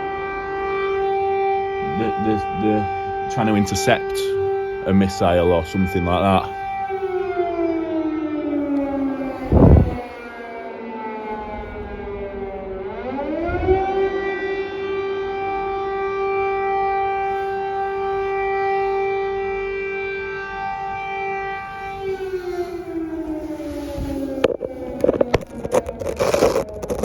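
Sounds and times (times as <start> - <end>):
air raid siren wailing: 0.0 - 27.0.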